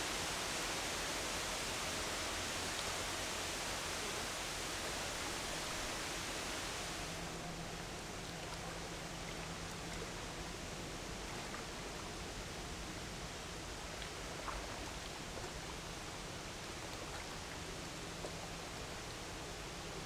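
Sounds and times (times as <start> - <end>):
faint low ship engine hum: 0.0 - 20.0.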